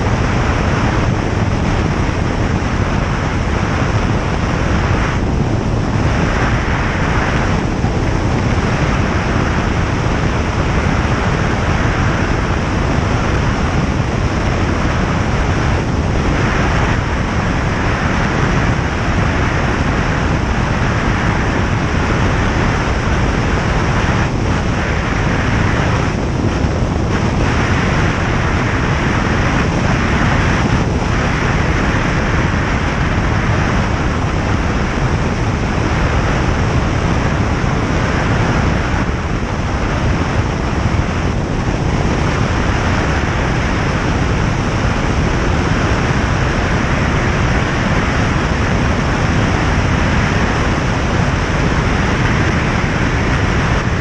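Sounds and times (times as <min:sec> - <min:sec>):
light aircraft engine in flight: 0:00.0 - 0:54.0.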